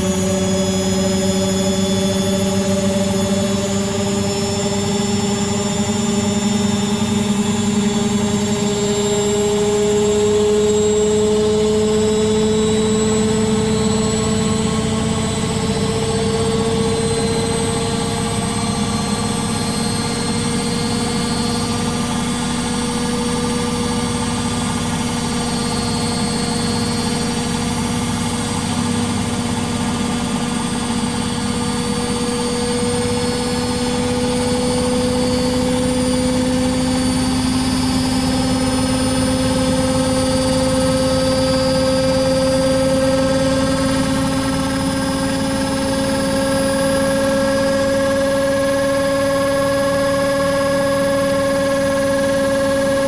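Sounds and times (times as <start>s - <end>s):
washing machine motor whine: 0.0s - 53.0s.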